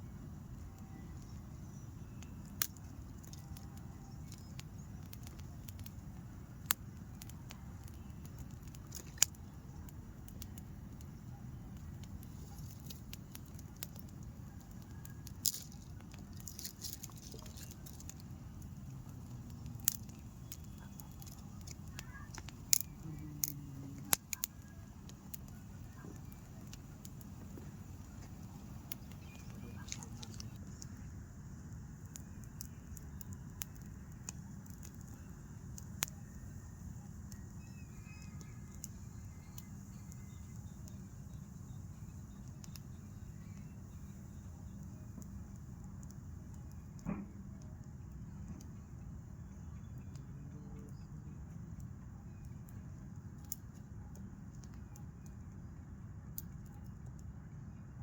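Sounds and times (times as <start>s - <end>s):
wood fire crackling and popping: 0.0s - 57.4s
steady low rumble: 0.0s - 58.0s.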